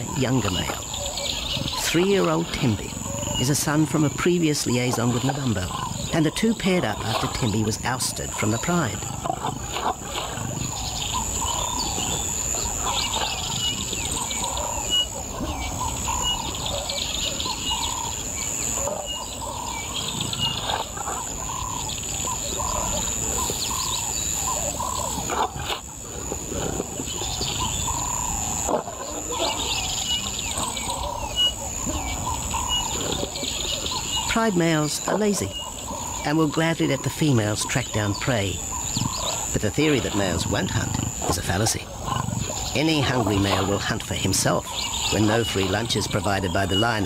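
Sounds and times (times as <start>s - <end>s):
lions growling low: 0.0s - 46.2s
birds chirping: 0.0s - 47.0s
high insect drone: 0.0s - 47.0s.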